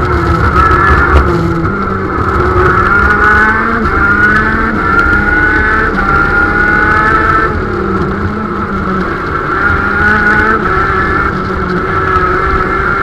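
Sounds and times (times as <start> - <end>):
kart engine at full throttle: 0.0 - 13.0
low rumble of wind: 0.0 - 13.0.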